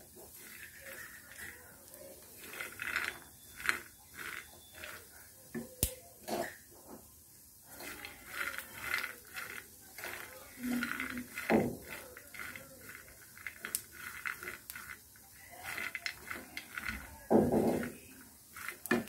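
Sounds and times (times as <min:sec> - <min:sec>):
peanuts rattling in a frying pan: 0:00.0 - 0:19.0.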